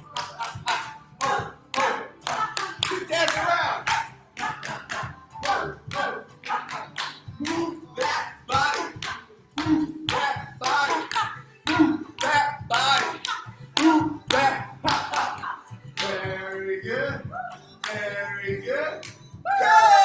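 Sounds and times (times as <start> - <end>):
rhythmic hand clapping: 0.0 - 16.5, 17.8 - 18.2, 18.9 - 19.4.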